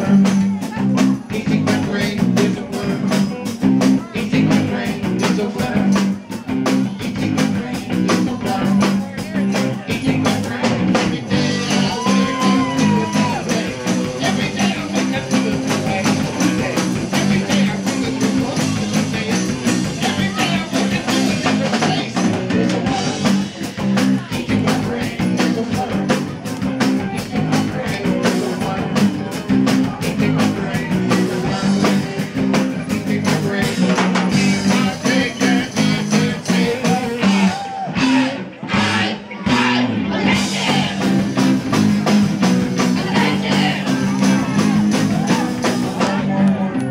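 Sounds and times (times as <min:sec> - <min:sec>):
steady drum beat: 0:00.0 - 0:46.4
electric guitars: 0:00.0 - 0:46.9.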